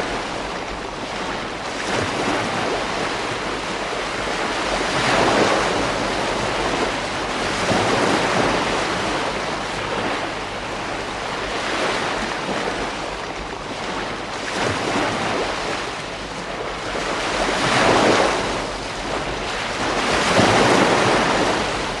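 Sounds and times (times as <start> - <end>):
ocean waves breaking: 0.0 - 22.0
wind on microphone: 0.0 - 22.0.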